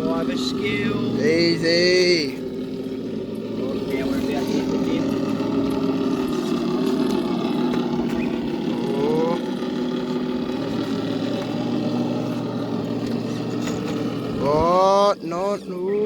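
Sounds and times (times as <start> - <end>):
rc car motor whine: 0.0 - 16.0.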